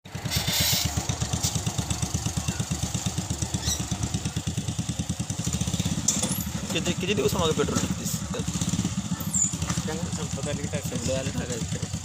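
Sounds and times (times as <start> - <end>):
small petrol engine chugging: 0.1 - 12.0.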